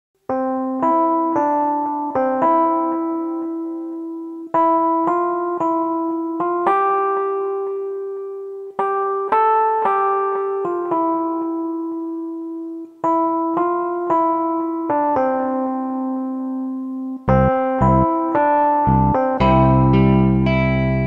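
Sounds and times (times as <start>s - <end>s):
slow piano melody: 0.2s - 21.0s.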